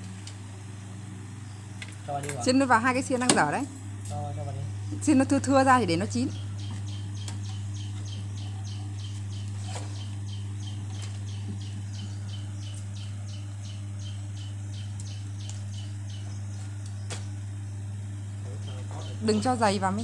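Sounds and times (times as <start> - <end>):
electric fan motor hum: 0.0 - 20.0.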